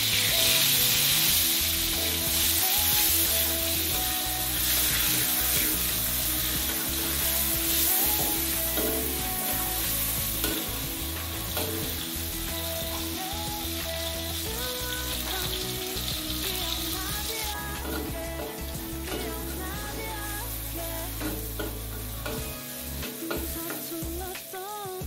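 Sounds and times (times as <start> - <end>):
metal spatula scraping wok: 0.0 - 13.3, 14.0 - 23.9
faint background music: 0.0 - 25.0
food sizzling in hot oil: 0.0 - 25.0.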